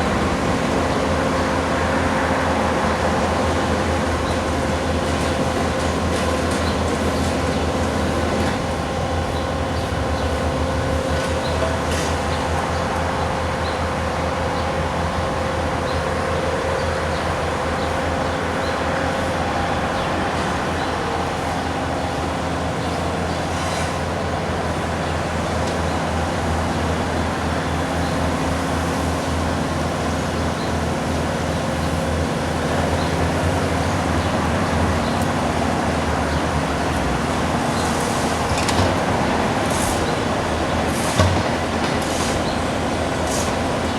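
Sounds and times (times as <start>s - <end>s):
diesel engines under load: 0.0s - 43.9s.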